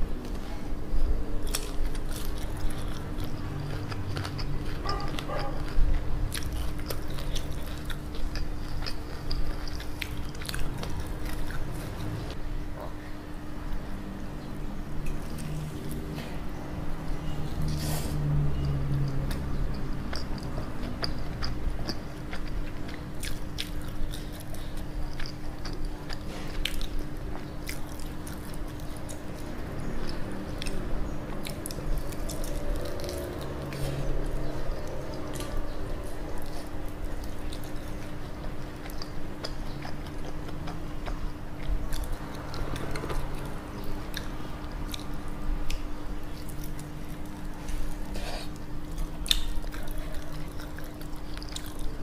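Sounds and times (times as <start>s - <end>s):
chewing crunchy fried chicken: 0.0s - 13.9s, 15.0s - 52.0s
steady low hum: 0.0s - 52.0s.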